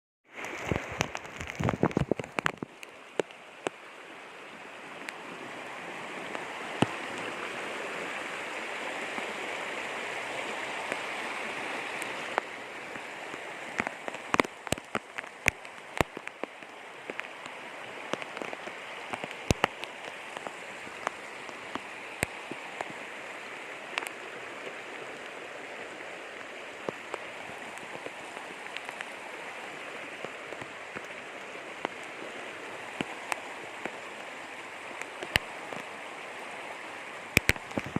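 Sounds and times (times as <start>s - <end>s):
heavy rain: 0.3s - 37.9s.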